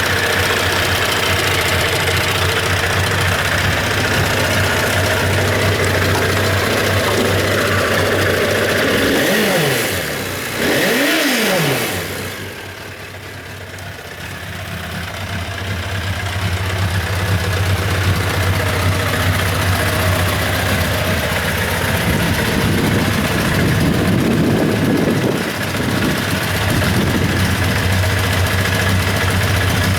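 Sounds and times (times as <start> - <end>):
motorcycle engine revving and idling: 0.0 - 29.9.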